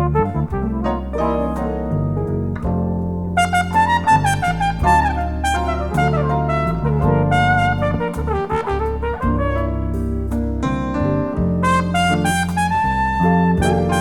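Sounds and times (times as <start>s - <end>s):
brass melody with sliding notes: 0.0s - 2.6s, 3.4s - 14.0s
sustained bass line: 0.0s - 14.0s.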